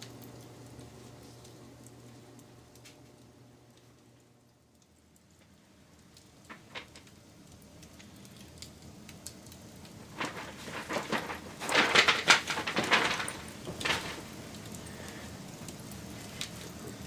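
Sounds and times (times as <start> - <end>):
fire snapping and popping: 0.0 - 17.0
wood fire crackling: 0.0 - 17.0.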